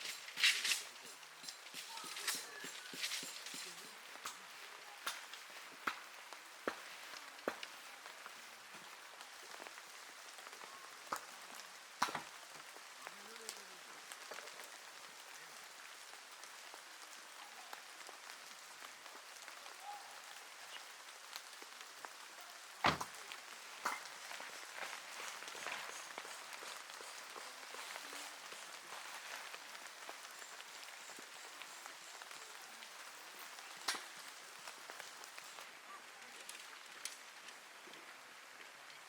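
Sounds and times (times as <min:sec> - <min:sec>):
steady rain: 0:00.0 - 0:39.0.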